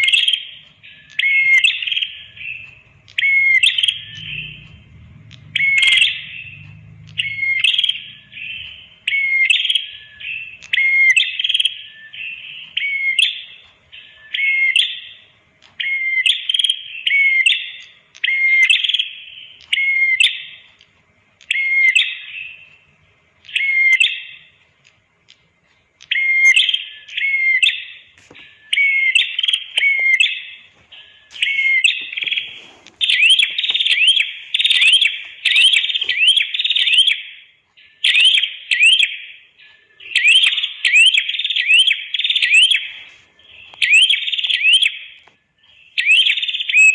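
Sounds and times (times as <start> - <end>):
bird chirping song: 0.0 - 46.9.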